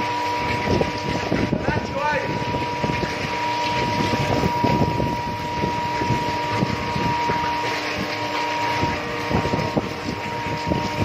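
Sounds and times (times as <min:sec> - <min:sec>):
furnace high whine: 0:00.0 - 0:11.0
molten metal pouring: 0:00.0 - 0:11.0.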